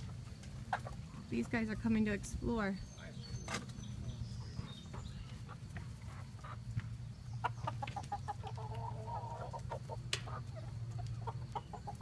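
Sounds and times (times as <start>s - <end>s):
chickens clucking: 0.0s - 2.2s, 3.0s - 12.0s.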